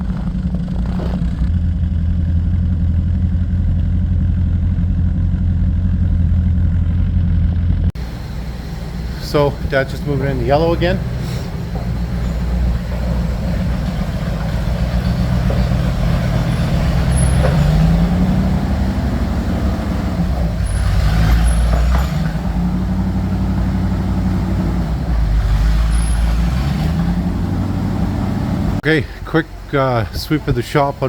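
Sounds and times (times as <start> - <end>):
rattles: 0.0 - 7.9, 9.3 - 27.4
snow bus engine running: 0.0 - 31.0.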